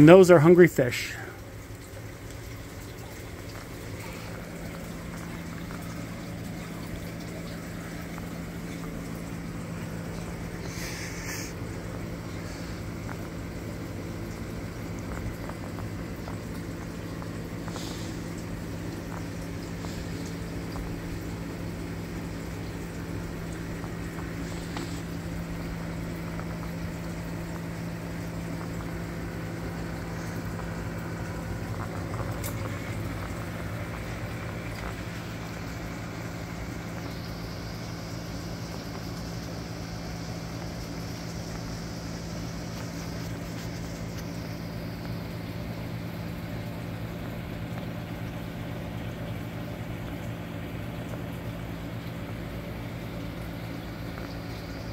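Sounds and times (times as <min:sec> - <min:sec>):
aquarium pumps humming: 0:00.0 - 0:54.9
water flowing and trickling: 0:00.0 - 0:54.9.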